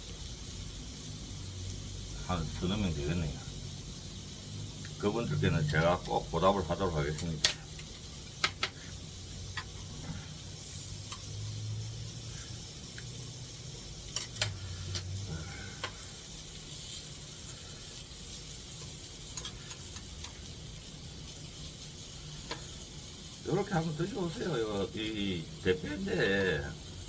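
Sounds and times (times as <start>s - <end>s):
meat sizzling in a pan: 0.0s - 27.0s.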